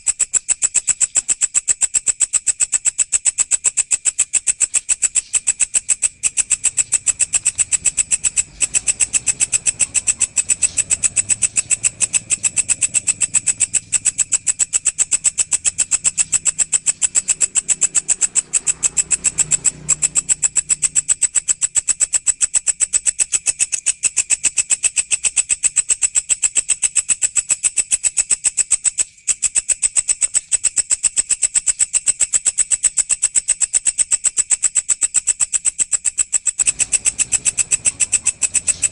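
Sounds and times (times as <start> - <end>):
insect chirring: 0.0 - 38.9.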